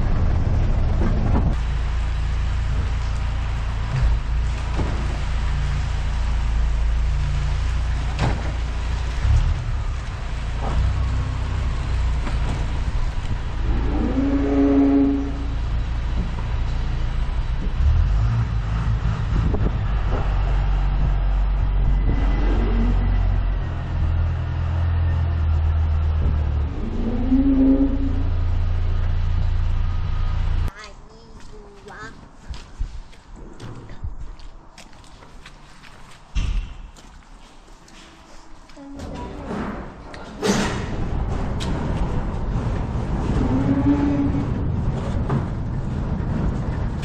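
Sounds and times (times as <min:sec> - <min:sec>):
vehicle engine rumble: 0:00.0 - 0:47.0.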